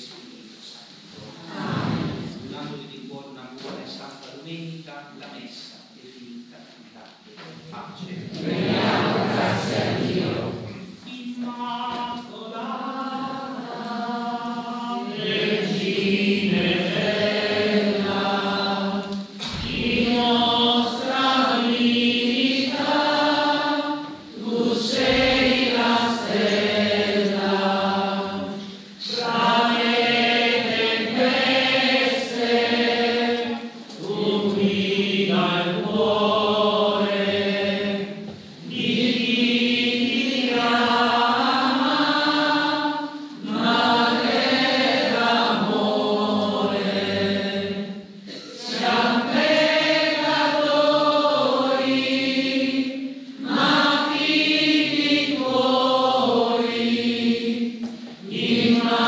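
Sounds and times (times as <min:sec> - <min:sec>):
voices singing a hymn: 0:00.0 - 0:02.8, 0:08.0 - 0:59.0.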